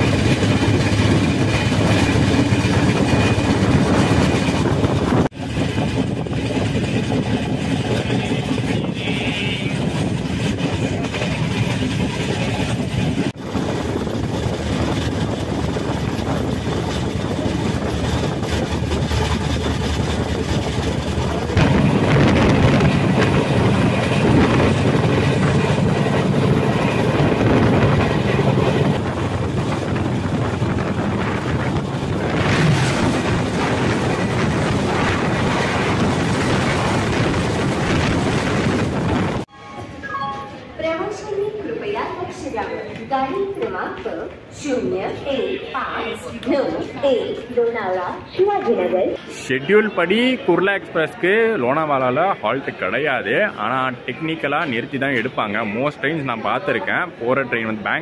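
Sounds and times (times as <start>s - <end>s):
train rumble and wheel clatter: 0.0s - 58.0s
wind: 0.0s - 58.0s.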